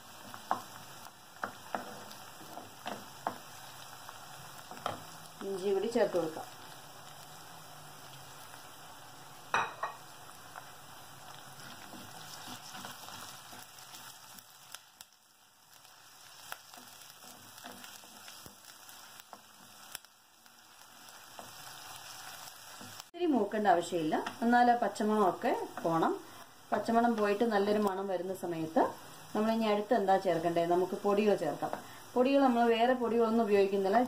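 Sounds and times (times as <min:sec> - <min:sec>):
spices sizzling in hot oil: 0:00.0 - 0:34.0.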